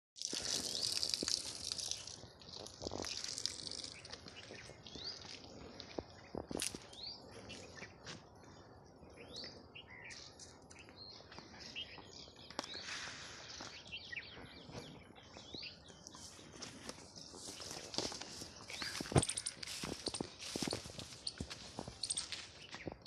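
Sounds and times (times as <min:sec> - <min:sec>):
small birds chirping: 0:00.2 - 0:23.0.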